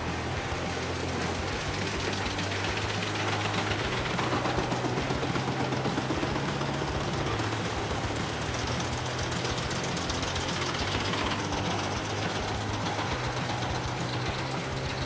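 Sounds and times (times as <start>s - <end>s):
wood-crushing machine grinding: 0.0s - 15.0s.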